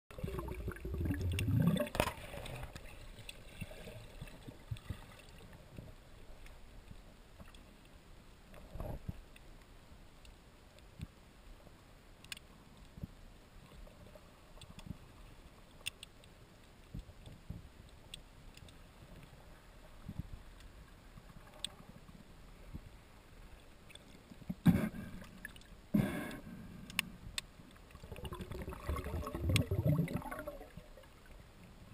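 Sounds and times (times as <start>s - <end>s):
muffled underwater water rush: 0.1s - 31.9s
faint clicks and knocks: 1.3s - 28.3s.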